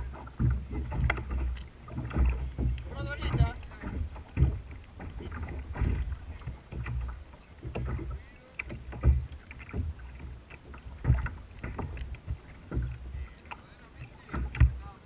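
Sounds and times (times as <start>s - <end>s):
low thumps and knocks: 0.0s - 15.0s
waves lapping against plastic hull: 0.0s - 15.0s.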